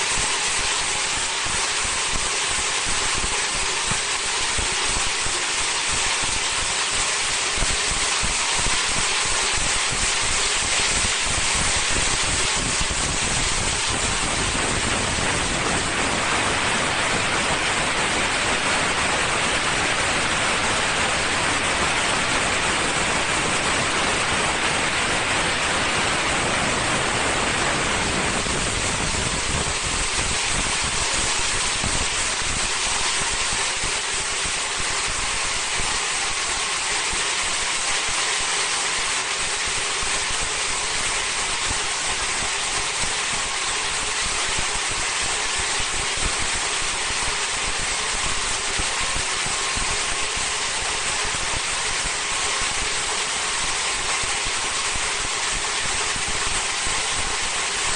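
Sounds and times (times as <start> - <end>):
faint machine whine: 0.0 - 57.9
machine rushing hiss: 0.0 - 57.9.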